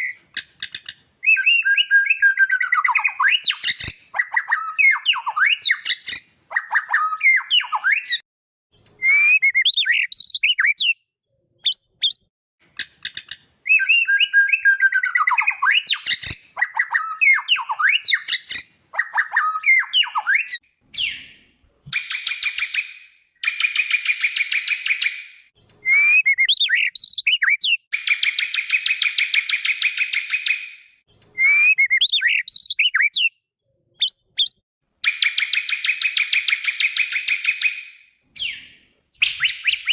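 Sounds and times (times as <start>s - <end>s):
songbird whistles and chirps: 0.0s - 8.2s, 8.8s - 39.9s.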